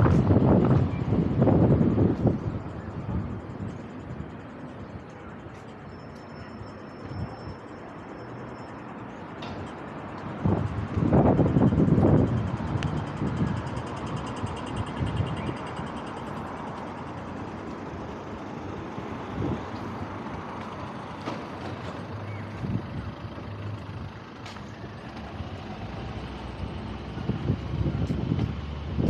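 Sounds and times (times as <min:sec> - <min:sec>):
hum of traffic: 0:00.0 - 0:29.0.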